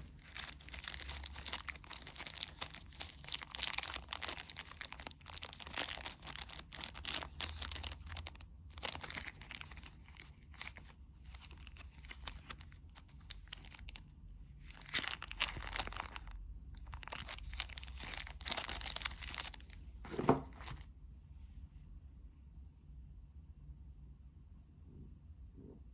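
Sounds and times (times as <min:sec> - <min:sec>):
rustling and crinkling: 0:00.0 - 0:20.9.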